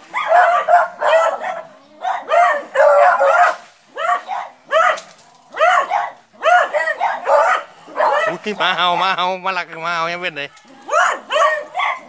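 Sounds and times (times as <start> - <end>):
dog barking: 0.1 - 9.3, 10.9 - 12.0.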